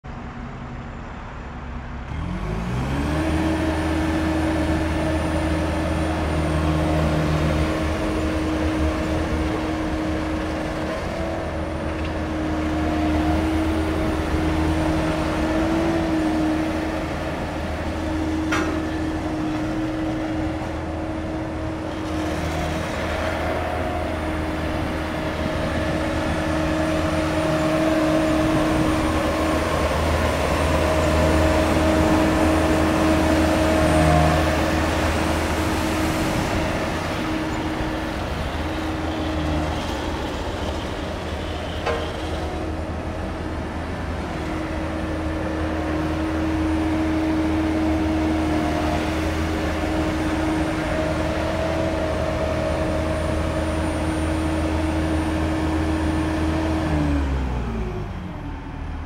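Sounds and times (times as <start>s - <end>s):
road roller diesel engine: 0.0s - 59.0s.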